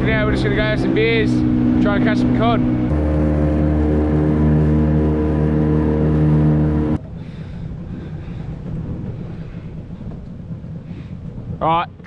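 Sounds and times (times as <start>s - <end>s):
outboard motor running: 0.0s - 11.4s
low rumble: 0.0s - 12.0s.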